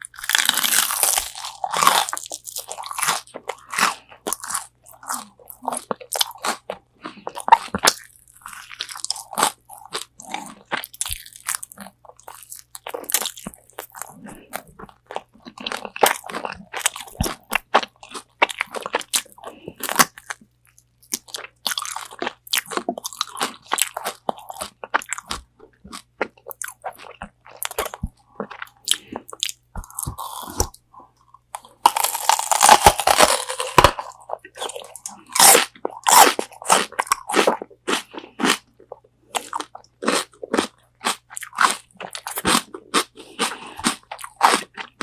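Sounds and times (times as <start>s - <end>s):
crunching and chewing fried chicken: 0.0s - 45.0s.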